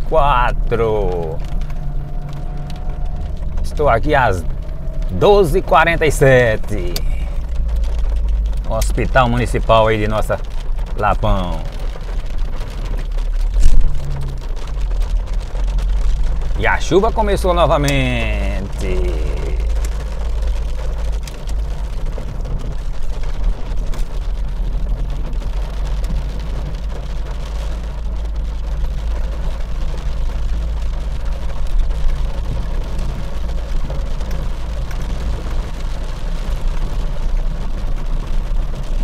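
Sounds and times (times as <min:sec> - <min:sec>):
car engine rumble: 0:00.0 - 0:39.0
rain spattering on windscreen: 0:00.0 - 0:39.0
tyres on wet road: 0:00.0 - 0:39.0.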